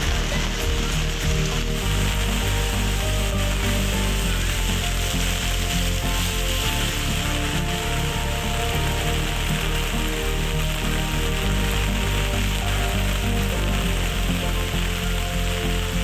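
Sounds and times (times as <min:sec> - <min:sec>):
heavy rain on pavement: 0:00.0 - 0:16.0
soft background music: 0:00.0 - 0:16.0.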